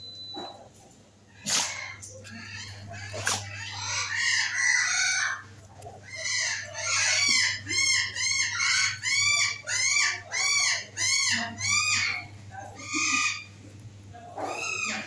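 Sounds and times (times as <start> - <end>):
dog whining: 1.4 - 13.5.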